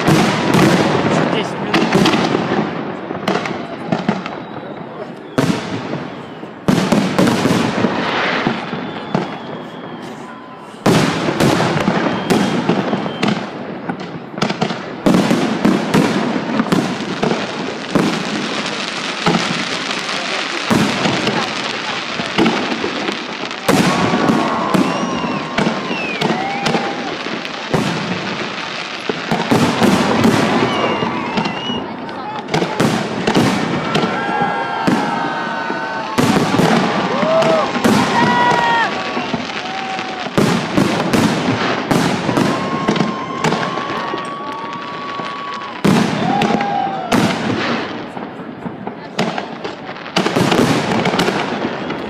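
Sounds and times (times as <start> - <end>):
crowd voices: 0.0 - 52.0
fireworks crackling: 0.0 - 52.0
fireworks exploding with bangs: 0.0 - 52.0.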